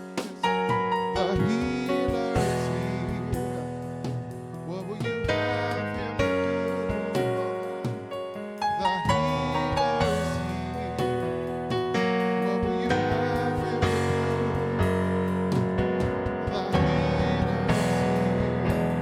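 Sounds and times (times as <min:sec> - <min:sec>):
worship music on keyboard: 0:00.0 - 0:19.0.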